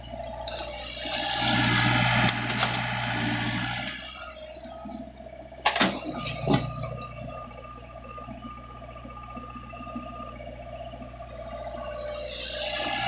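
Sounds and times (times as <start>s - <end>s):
high hydraulic whine: 0.0s - 10.4s, 11.0s - 13.0s
excavator engine running: 0.0s - 13.0s.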